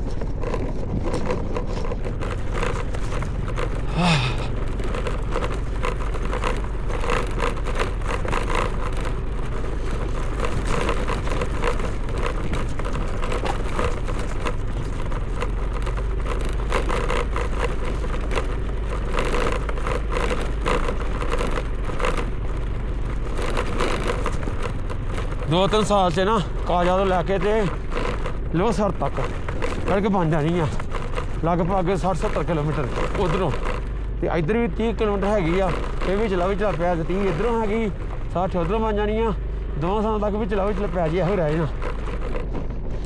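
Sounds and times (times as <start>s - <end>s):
motorbike engine running: 0.0s - 43.0s
rattles and knocks from jolting: 0.0s - 43.0s.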